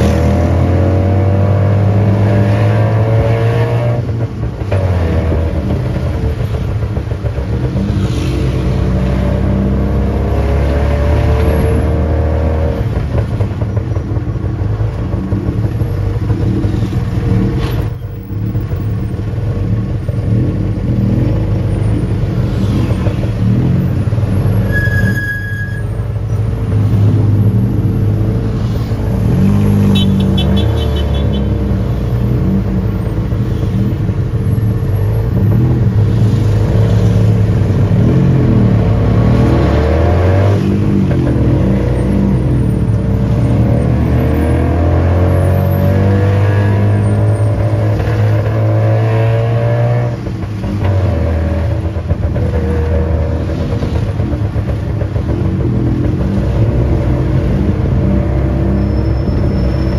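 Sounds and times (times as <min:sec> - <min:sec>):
tuk-tuk engine revving: 0:00.0 - 0:59.9.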